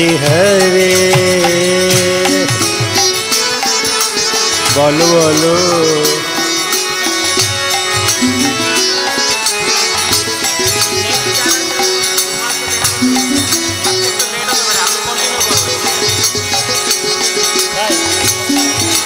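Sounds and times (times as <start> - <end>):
harmonium melody: 0.0 - 19.0
small hand cymbals jingling: 0.0 - 19.0.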